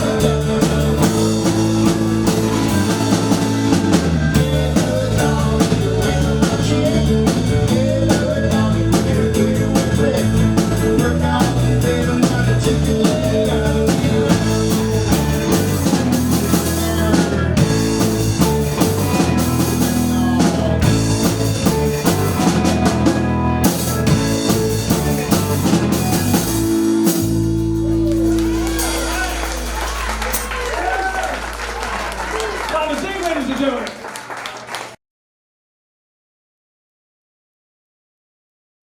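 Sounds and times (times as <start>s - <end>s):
drum kit beat: 0.0s - 31.2s
rock band playing live: 0.0s - 32.4s.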